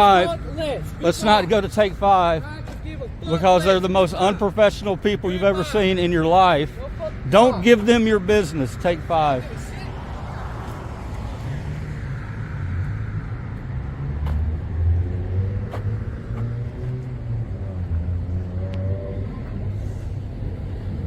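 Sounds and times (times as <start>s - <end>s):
car engines passing by: 0.0s - 21.0s.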